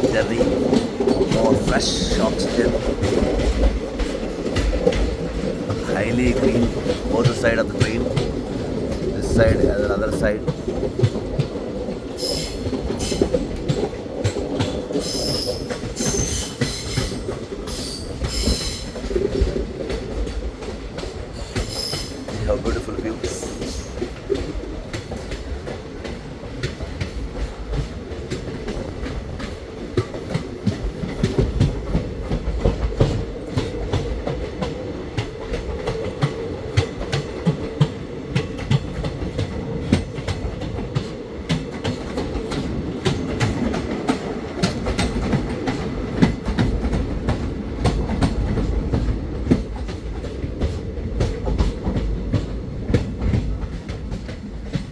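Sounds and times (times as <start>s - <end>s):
train rumble: 0.0s - 54.9s
wheels clicking over rail joints: 0.0s - 54.9s.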